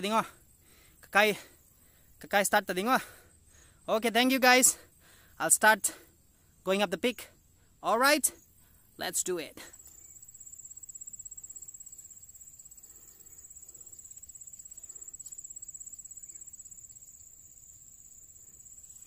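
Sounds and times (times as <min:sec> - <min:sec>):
insect trilling: 0:00.0 - 0:19.0.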